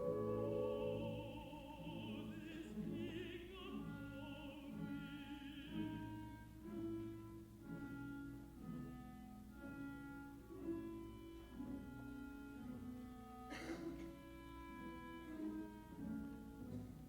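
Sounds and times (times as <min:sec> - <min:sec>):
orchestra playing slow strings: 0:00.0 - 0:17.0.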